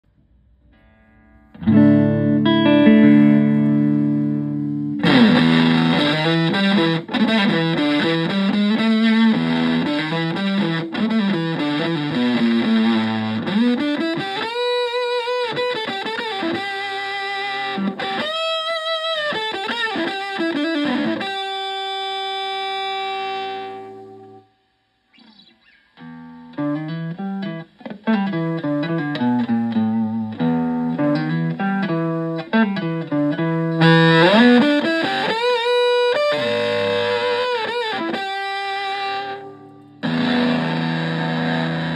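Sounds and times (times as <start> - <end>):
fuzz electric guitar: 0.2 - 24.5, 25.2 - 41.9.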